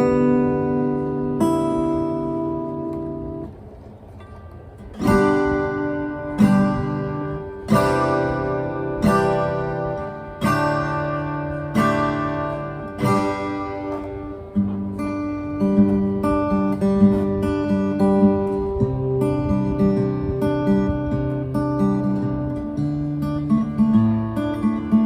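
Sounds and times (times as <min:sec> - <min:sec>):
acoustic guitar strummed: 0:00.0 - 0:25.0.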